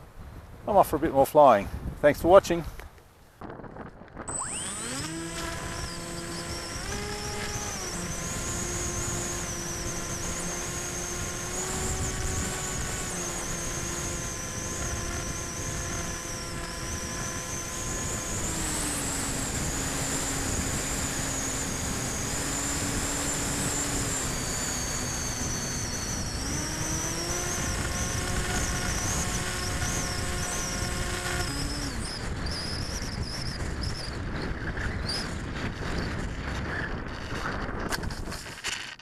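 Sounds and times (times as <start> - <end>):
wind rush: 1.6 - 2.8, 3.4 - 38.5
electric motor and propeller whine: 3.4 - 39.0.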